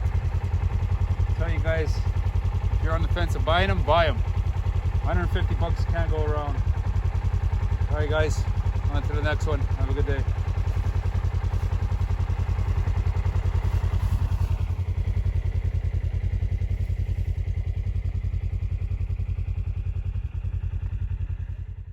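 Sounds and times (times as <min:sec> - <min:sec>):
engine idling with low pulse: 0:00.0 - 0:21.9.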